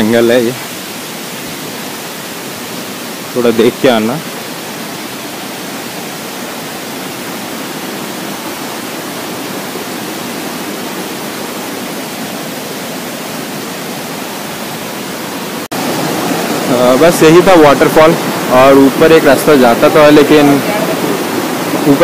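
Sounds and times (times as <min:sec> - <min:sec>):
waterfall over rocks: 0:00.0 - 0:22.0.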